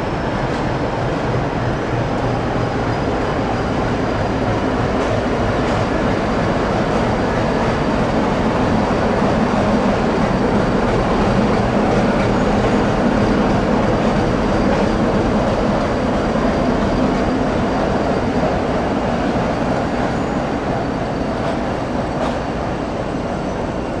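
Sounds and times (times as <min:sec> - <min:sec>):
train hum and rumble: 0:00.0 - 0:24.0.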